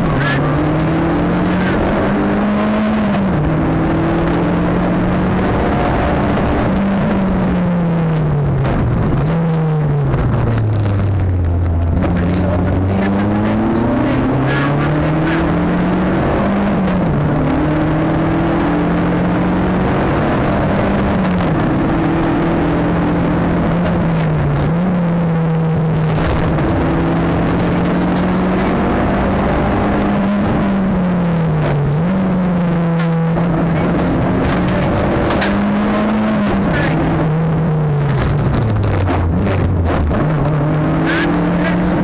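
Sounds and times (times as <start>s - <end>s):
car engine at high revs: 0.0s - 42.0s
road noise: 0.0s - 42.0s.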